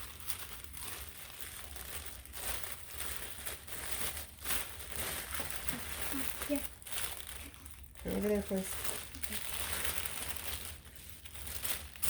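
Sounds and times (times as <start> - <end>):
low steady hum: 0.0 - 12.0
packaging crinkling and rustling: 0.0 - 12.0.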